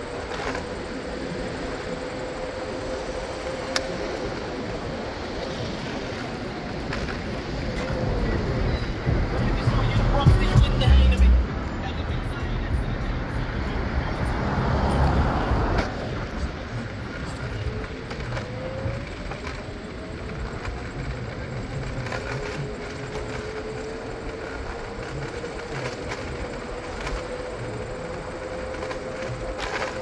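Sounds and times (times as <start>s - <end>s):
wind rushing over camera: 0.0s - 30.0s.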